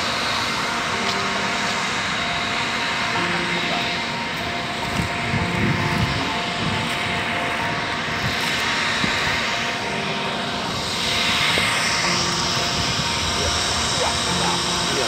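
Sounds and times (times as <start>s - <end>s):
engine droning hum: 0.0s - 15.0s.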